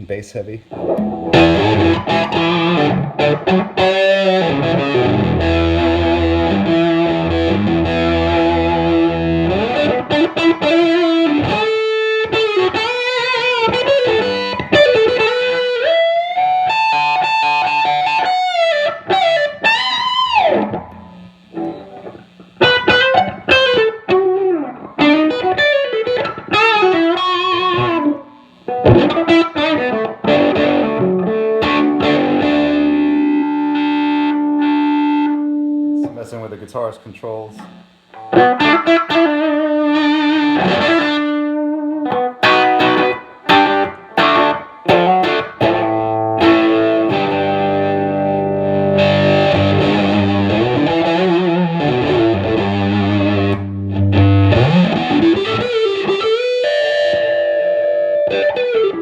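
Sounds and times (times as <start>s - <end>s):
electric guitar lead lines: 0.0s - 59.0s
fuzzed electric guitar chords: 0.6s - 59.0s.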